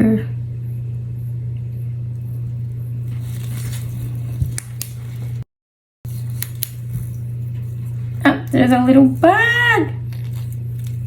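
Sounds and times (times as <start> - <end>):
steady low hum: 0.0 - 5.5, 6.1 - 11.0.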